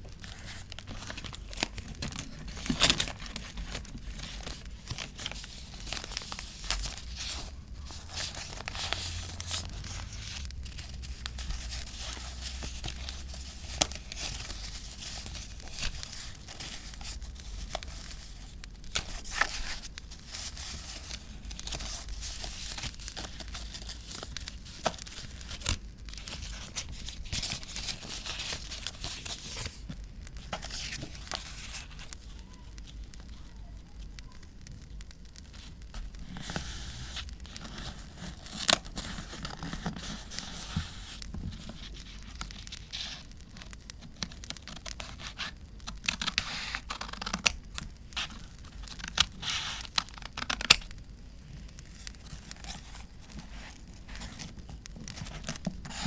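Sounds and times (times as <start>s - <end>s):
paper tearing and crinkling: 0.2s - 33.5s, 35.4s - 50.9s, 51.8s - 56.0s.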